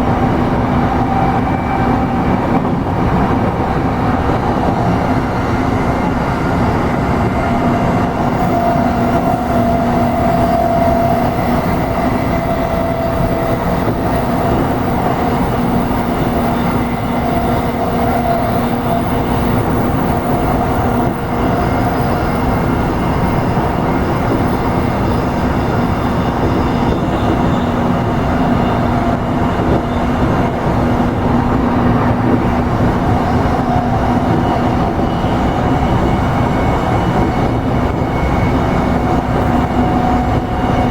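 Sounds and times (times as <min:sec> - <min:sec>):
steady train hum: 0:00.0 - 0:40.9
train wheels rumbling on rail: 0:00.0 - 0:40.9.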